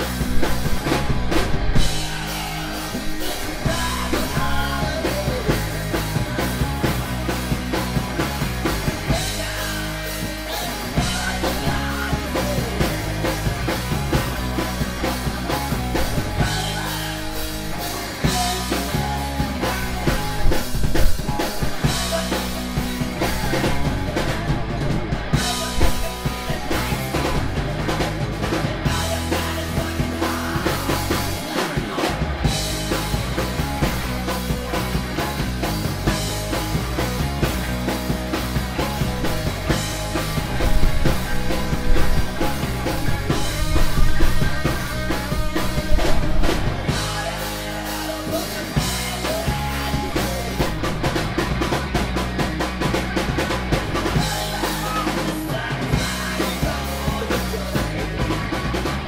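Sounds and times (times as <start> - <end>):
bass: 0.0 - 59.0
drum kit beat: 0.0 - 59.0
electric guitars: 0.0 - 59.0.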